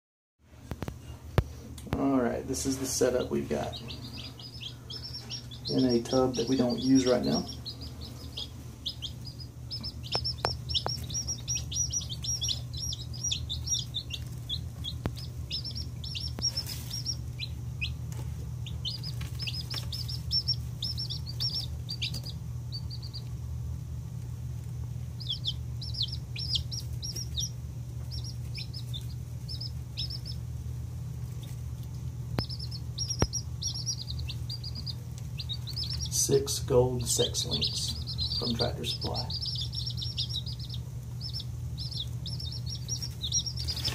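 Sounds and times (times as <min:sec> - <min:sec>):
steady low hum: 0:00.4 - 0:43.9
chicks peeping: 0:00.6 - 0:43.9.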